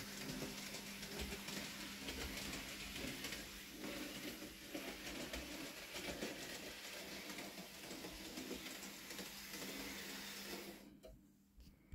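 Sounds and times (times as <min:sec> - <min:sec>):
model train motor whirr: 0:00.0 - 0:10.9.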